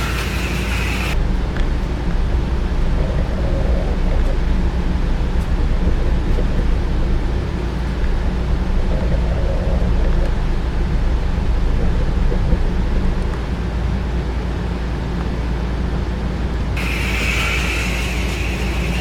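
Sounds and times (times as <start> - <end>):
electric motor hum and track rumble: 0.0 - 19.0.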